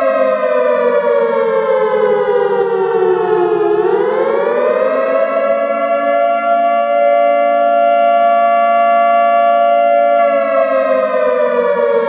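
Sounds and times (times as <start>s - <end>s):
air-raid siren wailing: 0.0s - 12.0s.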